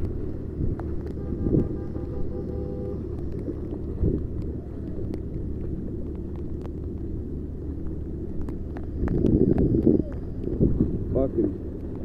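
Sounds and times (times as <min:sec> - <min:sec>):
wind rumble: 0:00.0 - 0:12.0.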